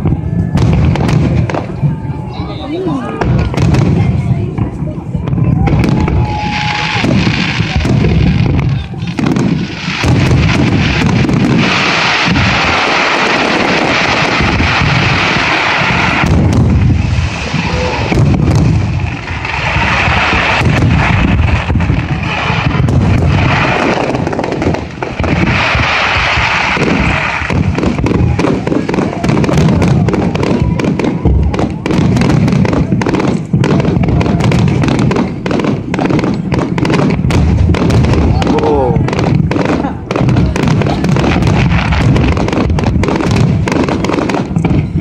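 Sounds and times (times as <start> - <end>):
fireworks crackling: 0.0 - 45.0
fireworks shell bursts booming: 3.0 - 45.0.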